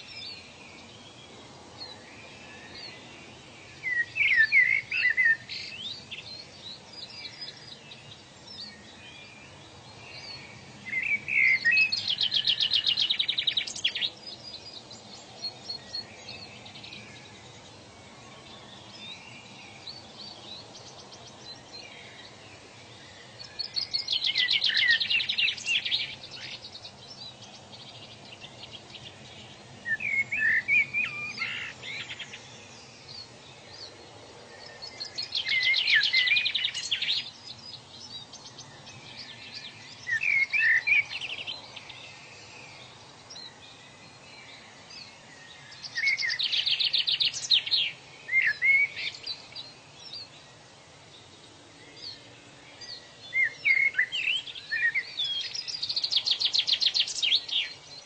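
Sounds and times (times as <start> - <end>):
faint background hiss: 0.0 - 58.0
songbirds trilling and chirping: 0.0 - 58.0.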